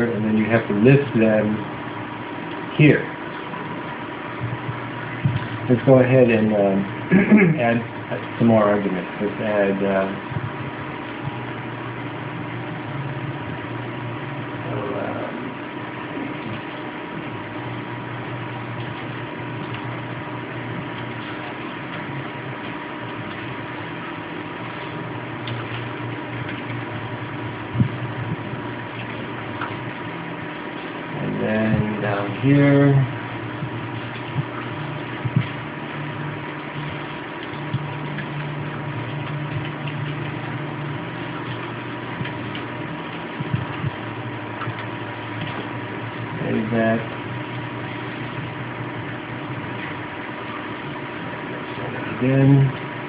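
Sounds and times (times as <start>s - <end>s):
background hum and hiss: 0.0s - 53.0s
faint constant tone: 0.0s - 53.0s.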